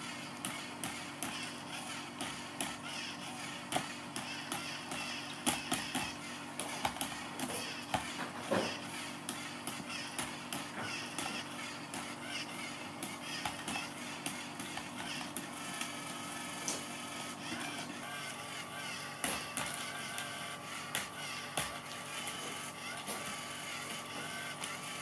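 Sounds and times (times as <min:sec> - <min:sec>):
toy motor humming: 0:00.0 - 0:25.0.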